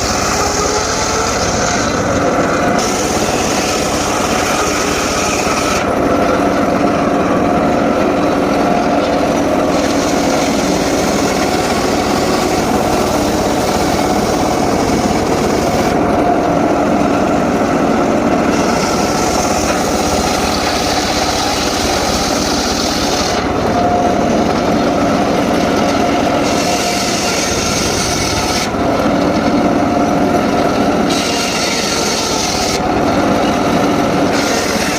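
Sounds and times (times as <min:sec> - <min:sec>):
circular saw cutting wood: 0:00.0 - 0:34.9.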